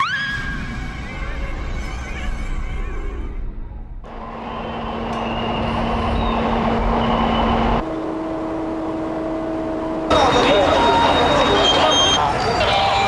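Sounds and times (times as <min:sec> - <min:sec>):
engine hum: 0:00.4 - 0:13.0.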